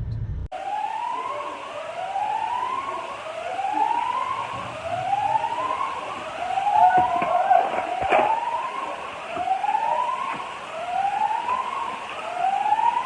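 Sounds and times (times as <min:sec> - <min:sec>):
emergency vehicle siren sweeping: 0:00.5 - 0:13.0.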